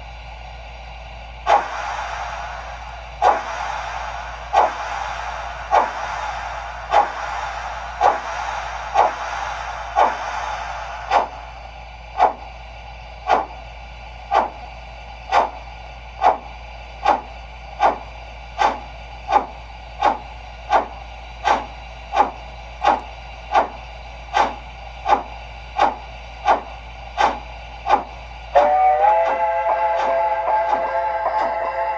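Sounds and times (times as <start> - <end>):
steam exhaust chuffs: 0.0 - 31.9
steam hiss: 1.5 - 31.9.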